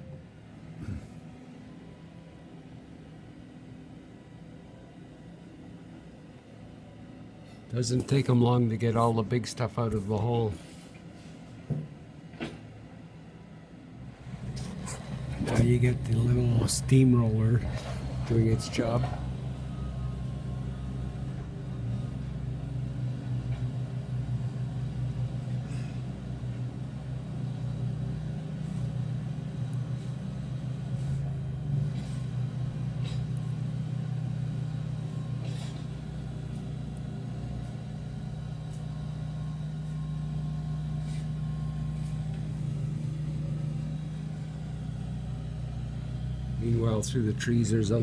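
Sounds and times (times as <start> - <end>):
machinery engine drone: 0.0 - 48.0.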